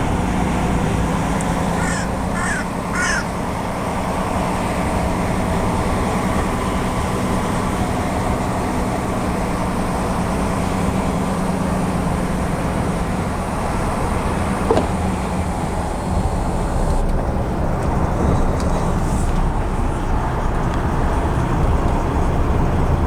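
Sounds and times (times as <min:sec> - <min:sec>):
lorry diesel engine droning: 0:00.0 - 0:23.0.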